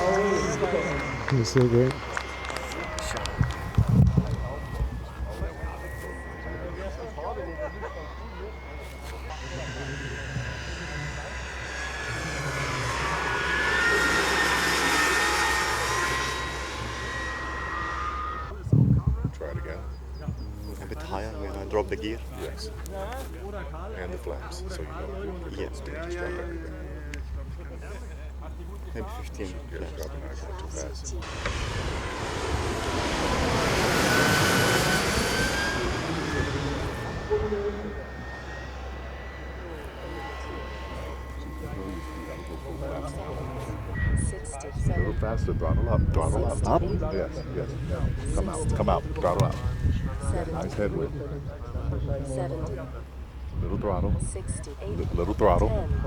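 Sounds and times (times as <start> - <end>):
model jet engine whine passing: 0.0 - 56.0.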